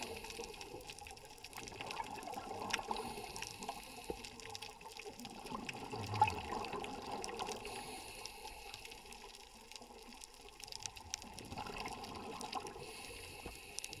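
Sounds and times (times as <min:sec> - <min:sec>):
muffled underwater rush: 0:00.0 - 0:14.0
small clicks and crackles: 0:00.0 - 0:14.0.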